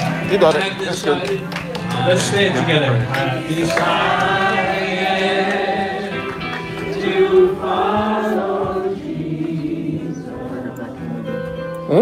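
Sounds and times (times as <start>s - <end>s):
group singing gospel music: 1.8s - 11.6s.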